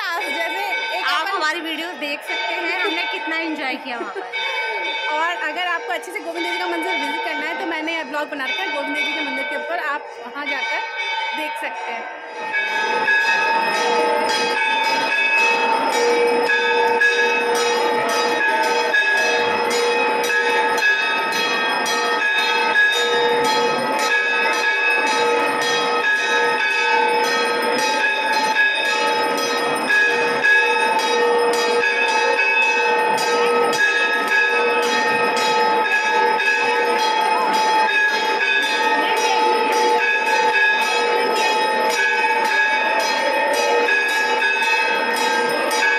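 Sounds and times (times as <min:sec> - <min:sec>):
temple bells ringing: 0:00.0 - 0:45.9.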